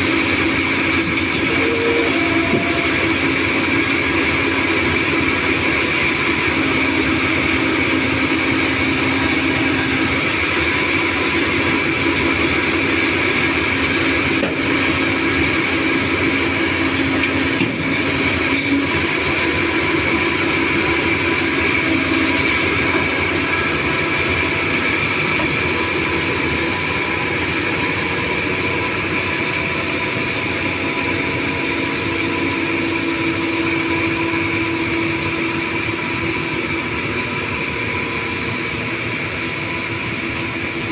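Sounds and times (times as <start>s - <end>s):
excavator diesel engine: 0.0s - 40.9s
high hydraulic whine: 0.0s - 40.9s.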